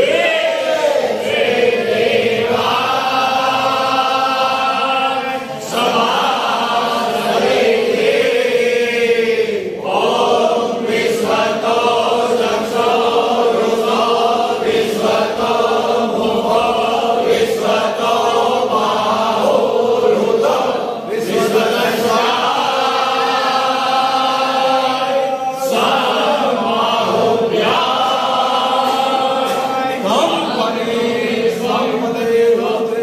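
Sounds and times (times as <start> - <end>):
men chanting in unison: 0.0 - 33.0.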